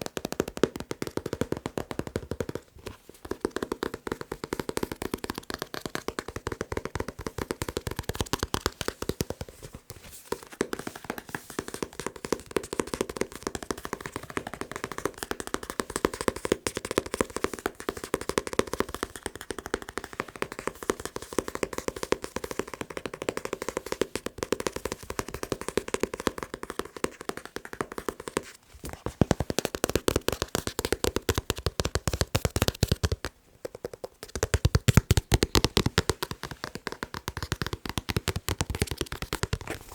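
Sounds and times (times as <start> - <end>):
fast tapping on a book: 0.0 - 39.9.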